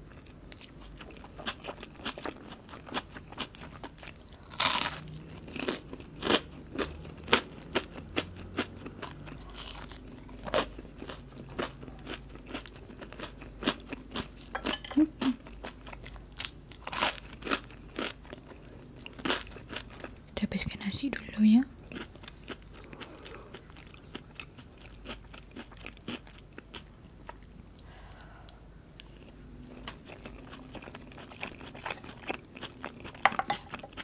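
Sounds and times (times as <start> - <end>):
quiet chewing: 0.0 - 20.2, 21.8 - 34.0
crunching fried shrimp: 0.0 - 20.3, 21.7 - 27.9, 29.0 - 34.0.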